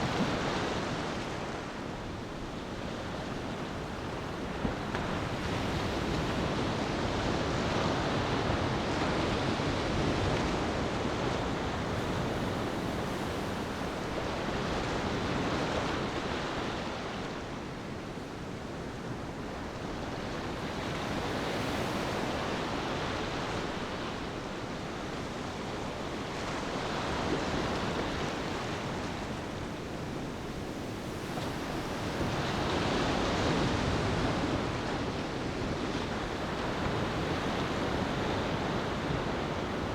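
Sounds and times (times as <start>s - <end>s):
ocean waves on beach: 0.0s - 39.9s.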